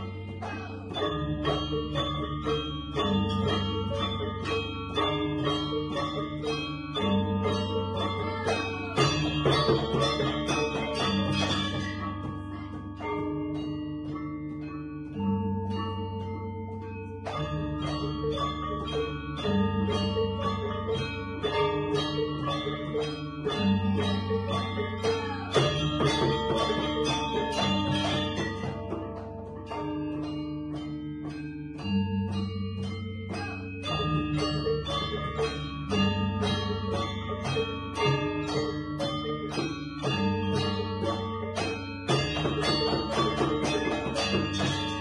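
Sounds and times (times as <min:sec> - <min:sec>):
struck metallophones ringing: 0:00.0 - 0:45.0.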